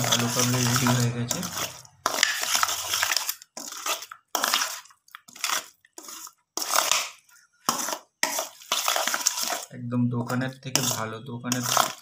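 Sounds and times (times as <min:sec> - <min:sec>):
spoon scraping in metal bowl: 0:00.0 - 0:12.0.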